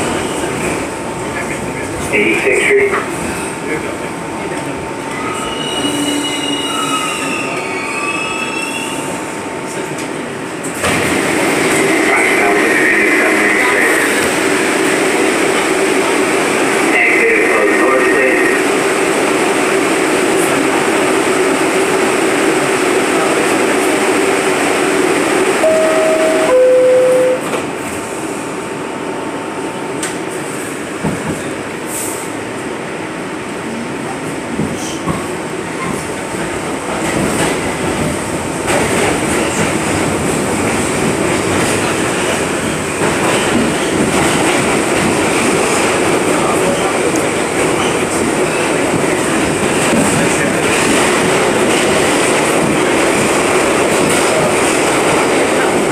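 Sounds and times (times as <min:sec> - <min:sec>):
subway car equipment humming: 0:00.0 - 0:55.9
wheels rumbling on rail: 0:09.0 - 0:55.9.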